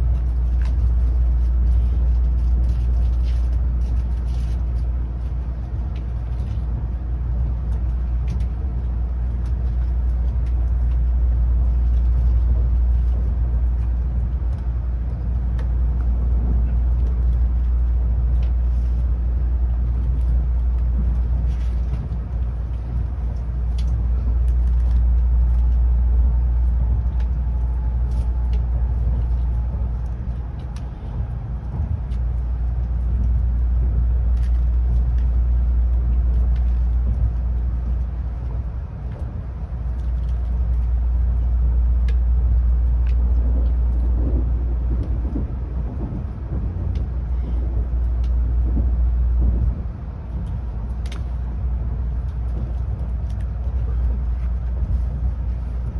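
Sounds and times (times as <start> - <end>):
train interior rumble: 0.0 - 55.9.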